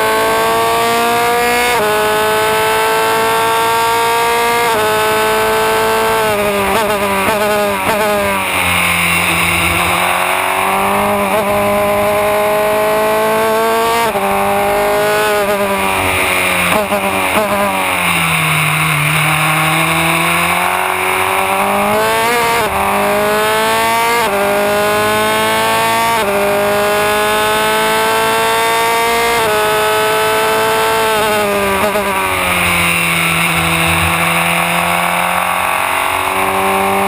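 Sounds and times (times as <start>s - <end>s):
racing engine with gear shifts: 0.0s - 37.0s.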